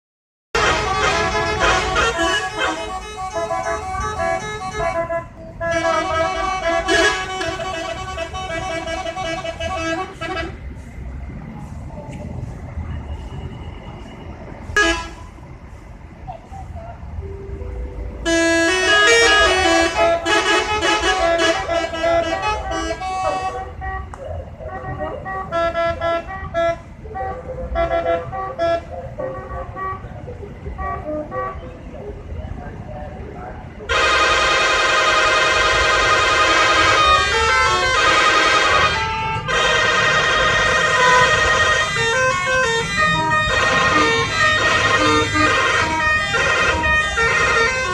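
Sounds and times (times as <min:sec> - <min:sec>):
bus musical air horns: 0:00.5 - 0:10.9, 0:13.0 - 0:15.5, 0:18.0 - 0:32.0, 0:33.9 - 0:47.9.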